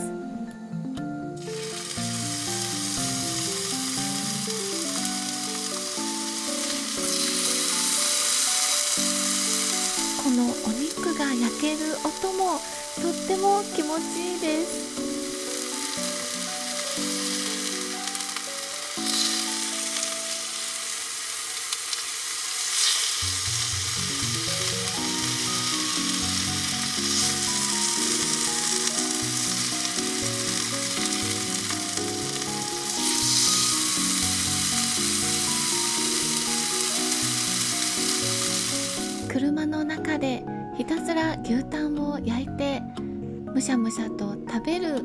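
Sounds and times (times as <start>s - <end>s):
soft background music: 0.0s - 45.0s
meat sizzling on a griddle: 1.4s - 39.3s.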